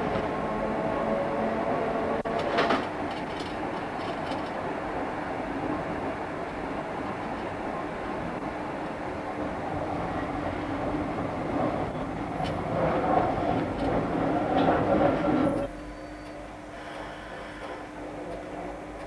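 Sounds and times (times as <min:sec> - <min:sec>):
tram rolling on rails: 0:00.0 - 0:19.0.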